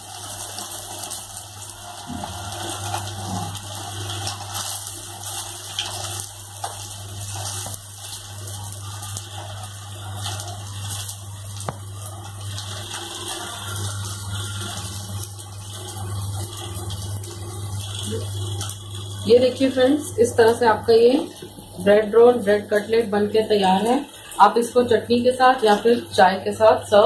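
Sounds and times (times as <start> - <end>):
deep-frying oil sizzling and crackling: 0.0 - 27.0.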